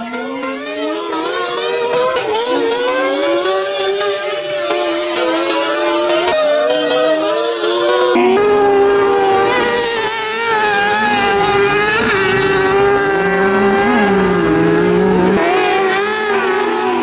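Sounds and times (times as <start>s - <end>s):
buggy engine high revs: 0.0s - 17.0s.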